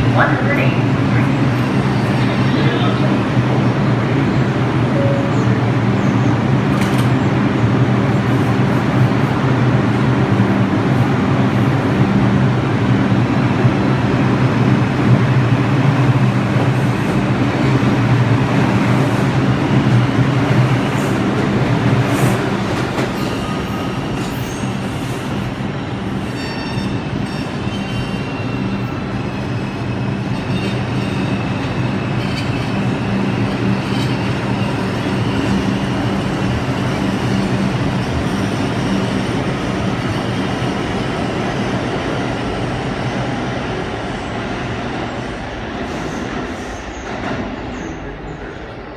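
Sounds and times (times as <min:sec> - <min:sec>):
subway train rumbling on rails: 0:00.0 - 0:48.9.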